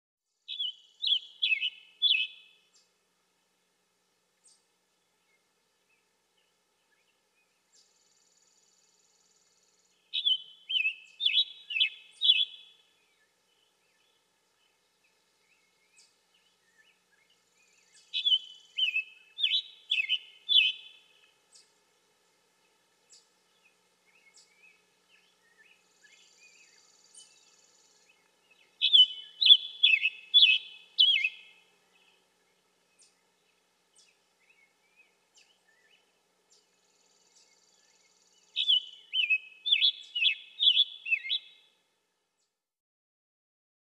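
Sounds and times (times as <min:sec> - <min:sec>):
bird singing: 0:00.4 - 0:02.9, 0:04.4 - 0:21.8, 0:22.6 - 0:41.8.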